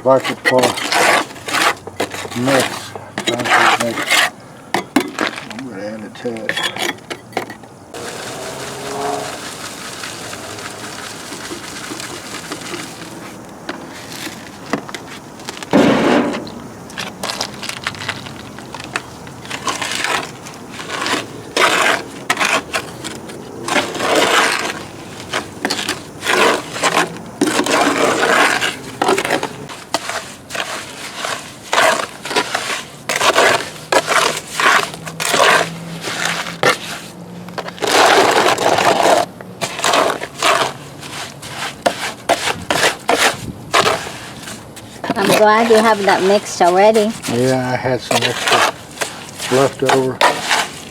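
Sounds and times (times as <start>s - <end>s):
tool scraping wet concrete: 0.0s - 50.9s.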